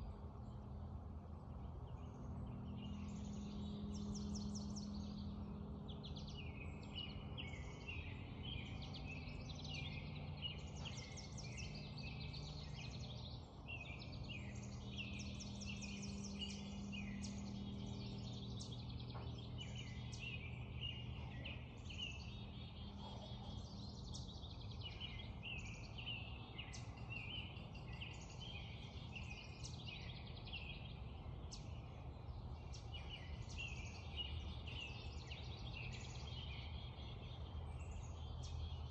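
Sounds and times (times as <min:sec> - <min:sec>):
songbirds singing and chirping: 0:00.0 - 0:38.9
steady low hum: 0:00.0 - 0:38.9.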